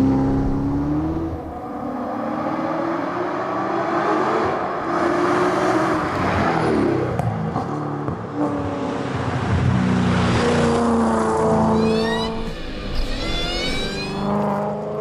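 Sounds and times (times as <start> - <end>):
car engine revving: 0.0 - 7.7, 8.6 - 15.0.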